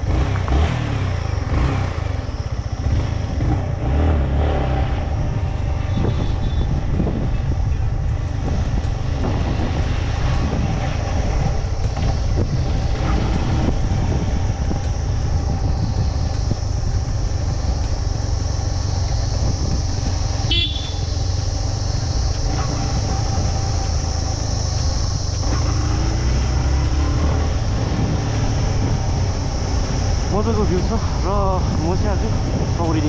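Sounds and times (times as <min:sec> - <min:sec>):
motorcycle engine rumble: 0:00.0 - 0:33.0.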